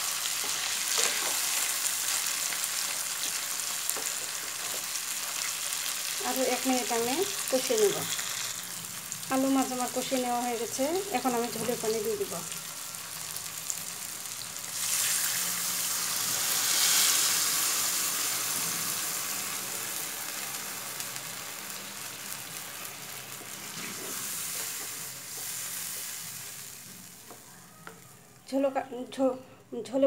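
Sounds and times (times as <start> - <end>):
water sizzling in hot oil: 0.0 - 27.5.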